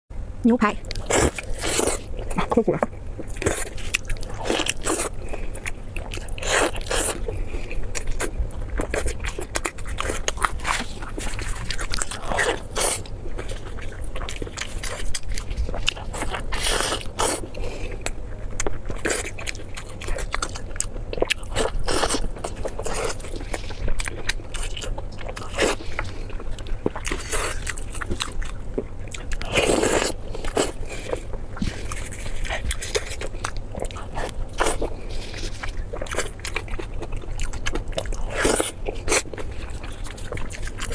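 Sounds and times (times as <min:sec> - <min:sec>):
person chewing crunchy food: 0:00.8 - 0:40.9.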